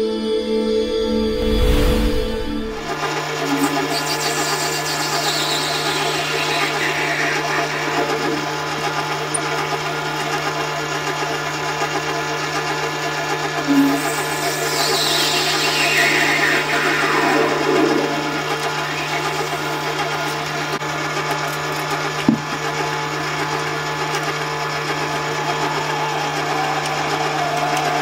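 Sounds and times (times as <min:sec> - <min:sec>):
spindle whirring and cutting: 0:02.5 - 0:28.0
machine motor hum: 0:02.8 - 0:28.0.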